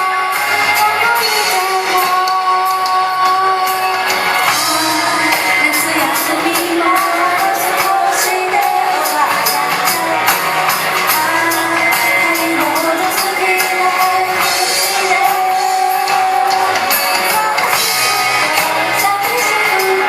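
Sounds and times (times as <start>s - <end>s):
loud pop song in a hall: 0.0s - 20.0s.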